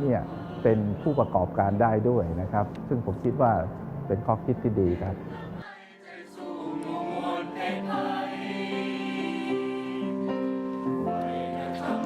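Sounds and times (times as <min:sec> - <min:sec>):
sustained choir-like chords: 0:00.0 - 0:02.2, 0:03.2 - 0:12.0.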